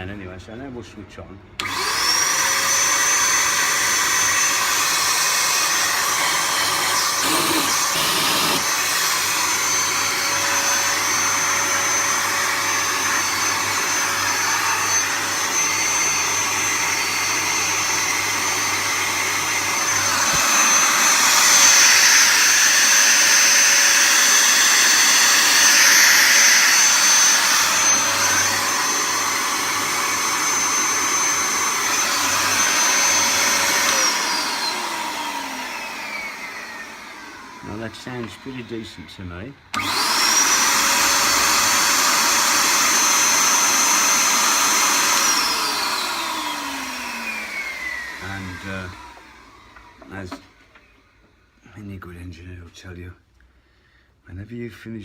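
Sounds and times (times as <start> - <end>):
vacuum cleaner motor whine: 1.6 - 51.4.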